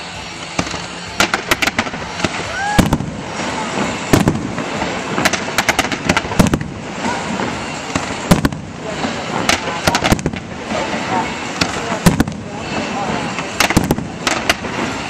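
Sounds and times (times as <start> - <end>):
fireworks bangs and crackles: 0.0 - 15.0
steady hiss: 0.0 - 15.0.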